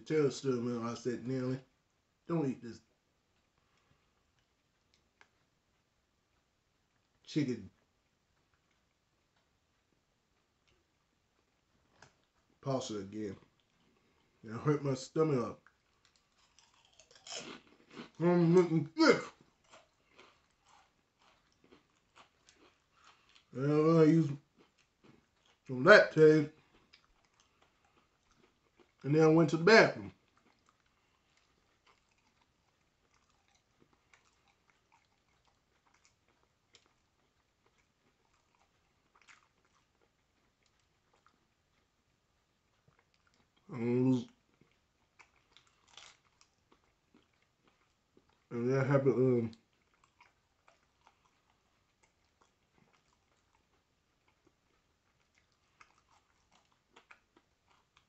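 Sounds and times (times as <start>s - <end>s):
faint chewing: 2.7s - 58.0s.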